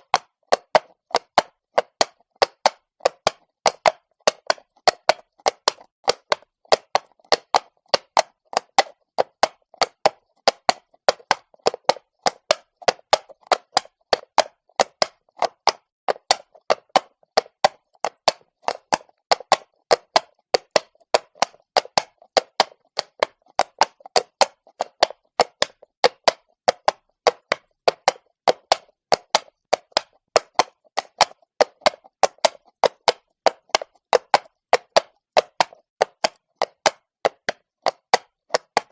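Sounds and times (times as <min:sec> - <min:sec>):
hooves clopping on cobblestones: 0:00.0 - 0:38.9.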